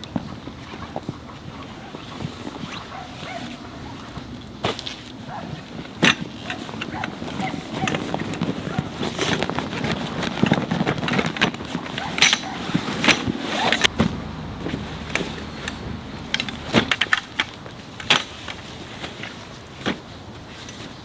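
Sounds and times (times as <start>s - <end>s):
camping gear clicks and knocks: 0.0s - 21.0s
rustling: 0.1s - 21.0s.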